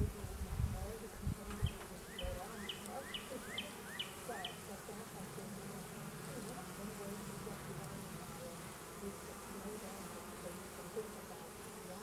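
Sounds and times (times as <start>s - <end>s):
bees humming: 0.0s - 12.0s.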